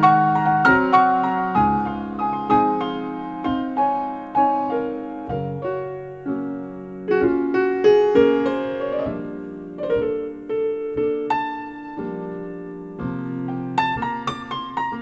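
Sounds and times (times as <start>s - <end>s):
piano jazz ballad over loudspeakers: 0.0s - 15.0s.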